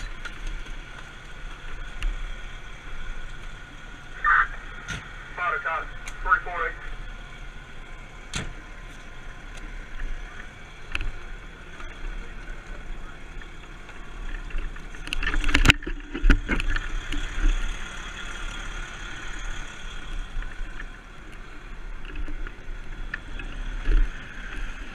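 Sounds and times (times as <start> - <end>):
moving vehicle rumble: 0.0 - 24.9.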